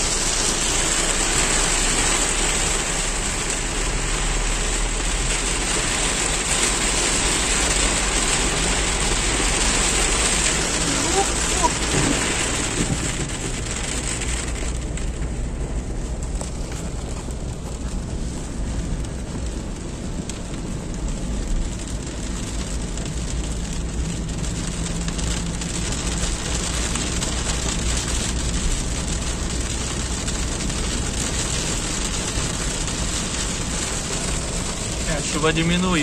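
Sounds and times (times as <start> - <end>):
engine and tyre rumble: 0.0 - 36.0
heavy rain on car roof: 0.0 - 36.0.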